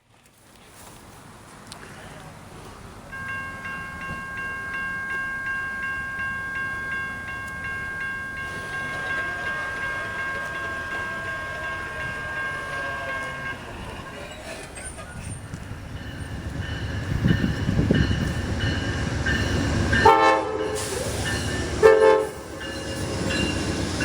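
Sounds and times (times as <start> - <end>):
rumble of approaching train: 0.9 - 24.0
railroad crossing bell ringing: 3.0 - 24.0.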